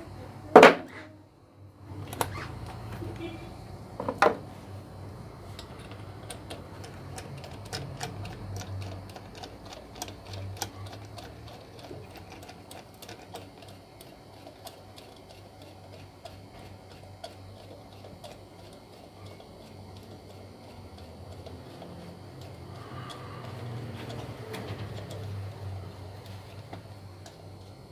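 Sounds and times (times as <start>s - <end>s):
low steady motor hum: 0.0s - 27.9s.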